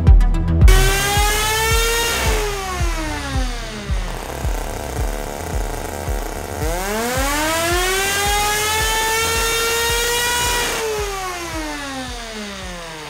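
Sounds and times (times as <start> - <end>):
low engine thump: 0.1 - 13.0
rotary engine high whine: 0.6 - 13.0.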